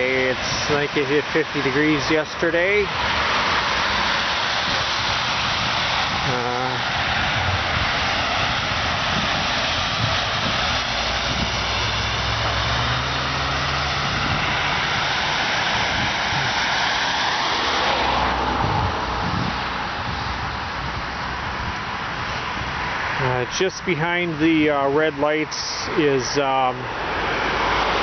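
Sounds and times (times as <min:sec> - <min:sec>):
passing vehicle engines: 0:00.0 - 0:28.0
tyre noise of traffic: 0:00.0 - 0:28.0.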